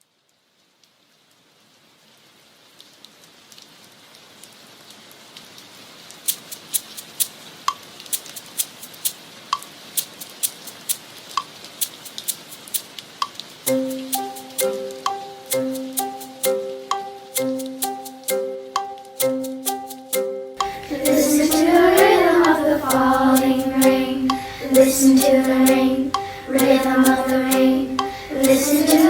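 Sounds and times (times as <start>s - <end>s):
rain falling: 0.0s - 29.0s
water drips: 4.4s - 29.0s.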